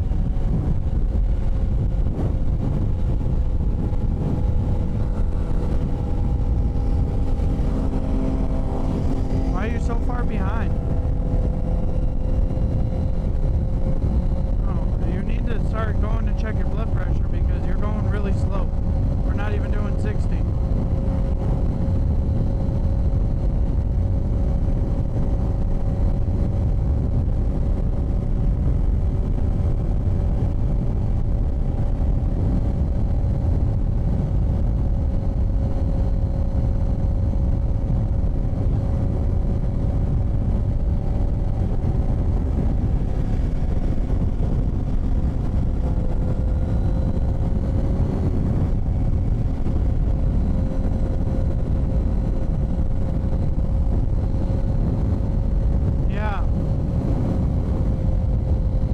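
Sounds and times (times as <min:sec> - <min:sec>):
motorcycle engine cruising: 0:00.0 - 0:58.9
wind rush on microphone: 0:00.0 - 0:58.9.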